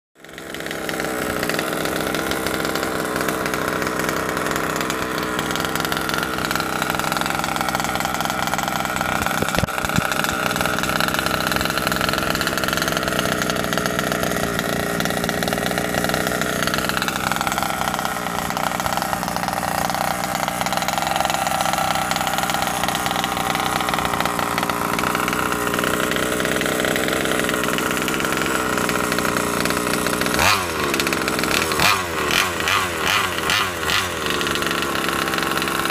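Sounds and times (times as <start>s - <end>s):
two-stroke engine idling: 0.2s - 35.9s.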